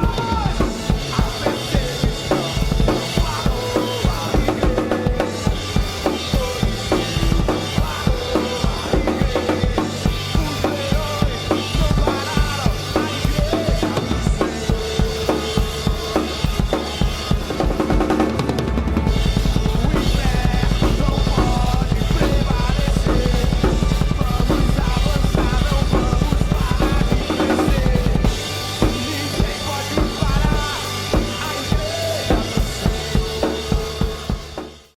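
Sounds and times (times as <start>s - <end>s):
drum kit playing: 0.0s - 34.9s
recorded song: 0.0s - 34.9s.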